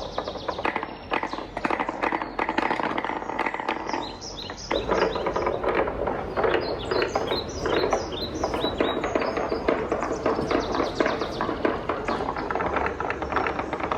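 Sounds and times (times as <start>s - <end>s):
wooden balls clattering on marble run: 0.0s - 13.9s.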